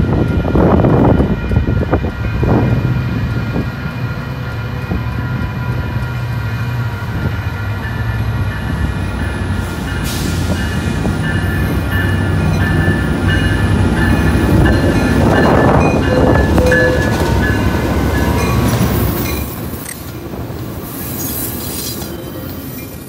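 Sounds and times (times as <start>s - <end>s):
locomotive humming: 0.0s - 23.0s.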